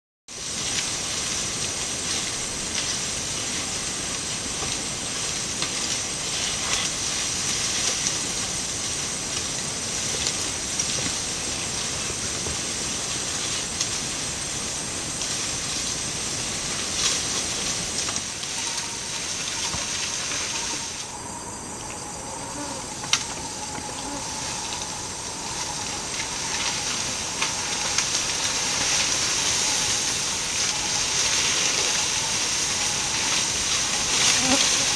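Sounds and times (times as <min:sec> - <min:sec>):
insects buzzing: 0:00.3 - 0:34.9.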